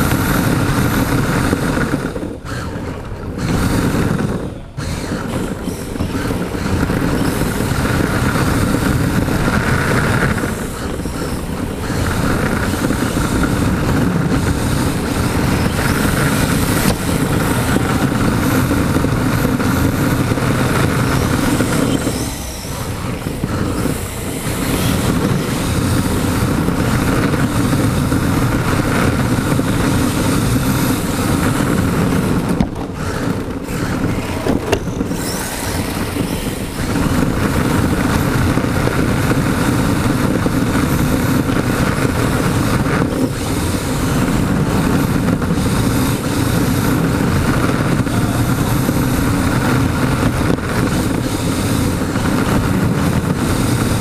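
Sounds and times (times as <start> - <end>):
rc car motor whir and rumble: 0.0 - 54.0.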